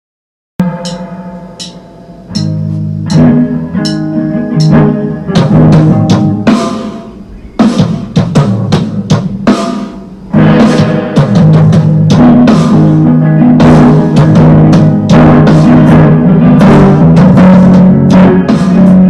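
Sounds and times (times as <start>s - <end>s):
drum kit hitting hard: 0.6s - 19.0s
guitars playing chords: 0.6s - 19.0s.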